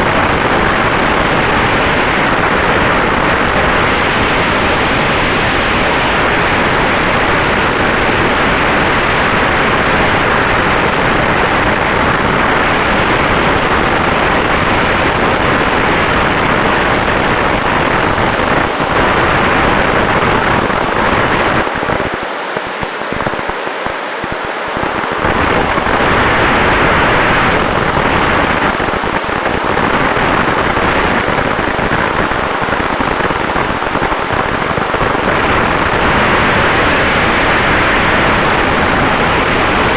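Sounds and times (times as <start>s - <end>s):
aircraft propeller and airflow: 0.7s - 39.9s.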